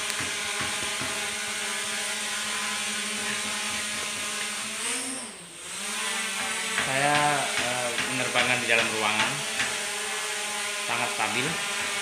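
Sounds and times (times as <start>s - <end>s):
toy drone whirring: 0.0s - 7.6s, 9.4s - 12.0s.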